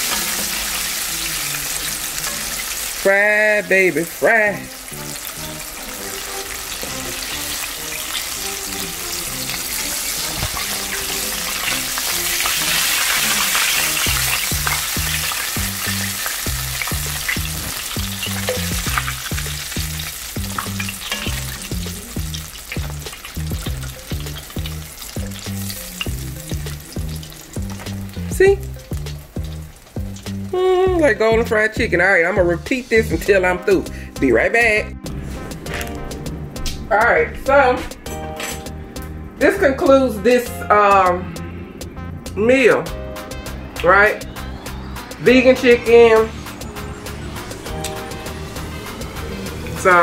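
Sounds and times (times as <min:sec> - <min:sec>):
deep-frying sizzle: 0:00.0 - 0:36.8, 0:37.5 - 0:50.0
soft background music: 0:00.0 - 0:50.0.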